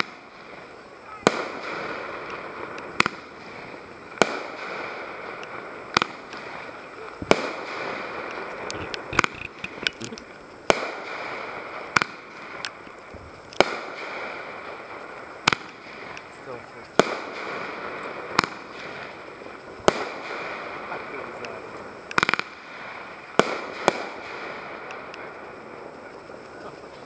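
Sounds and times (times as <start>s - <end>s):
fireworks bangs: 0.0s - 27.0s
hissing crackle: 0.0s - 27.0s.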